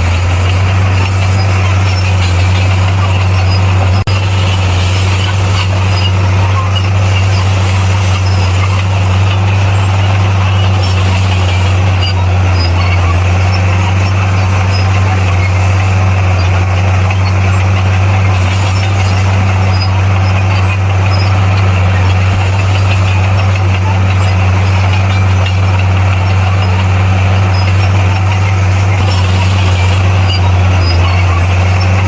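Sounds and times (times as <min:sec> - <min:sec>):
bulldozer diesel engine droning: 0:00.0 - 0:32.0
rough mechanical noise: 0:00.0 - 0:32.0.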